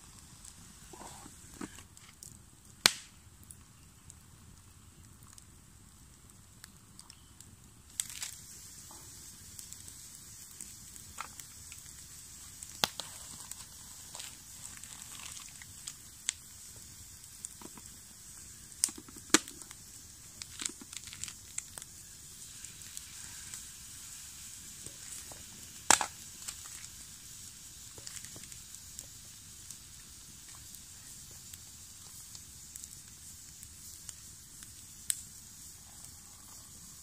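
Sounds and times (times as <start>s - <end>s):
campfire crackling: 0.0s - 37.0s
sharp fire pops: 0.0s - 37.0s.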